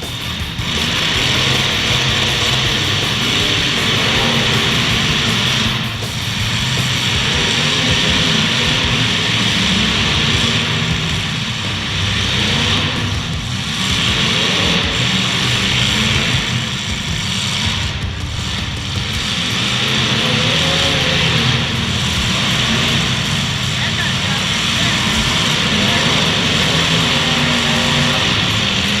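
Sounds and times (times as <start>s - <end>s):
car engines droning loudly: 0.0s - 29.0s.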